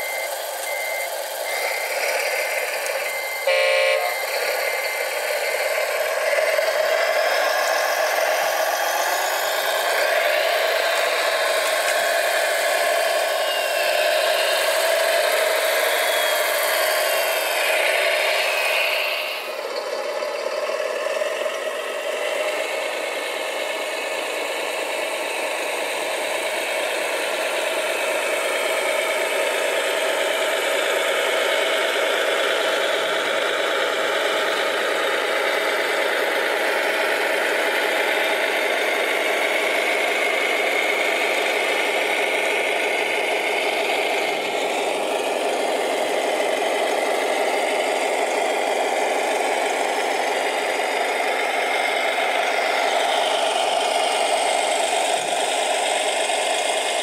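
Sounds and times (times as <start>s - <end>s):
model machines engine-like drone: 0.0s - 57.0s.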